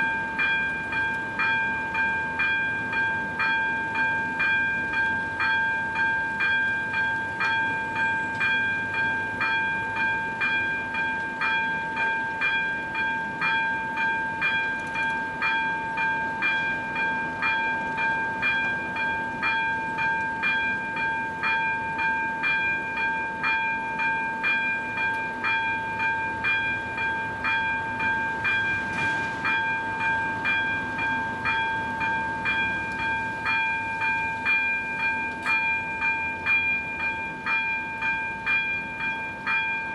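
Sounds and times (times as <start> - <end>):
electronic warning bell ringing: 0.0 - 39.9.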